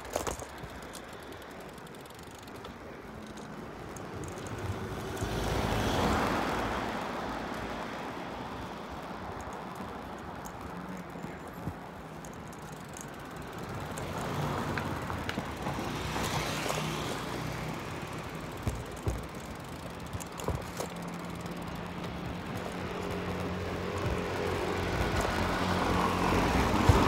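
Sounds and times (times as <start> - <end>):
sharp knocks and rattles: 0.0 - 5.4, 8.9 - 27.0
street traffic hum: 0.0 - 27.0.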